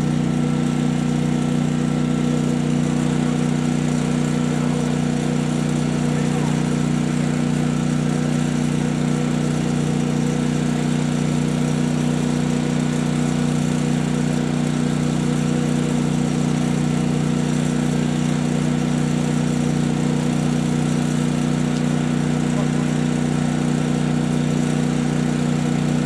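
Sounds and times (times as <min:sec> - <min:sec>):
generator engine drone: 0:00.0 - 0:26.0.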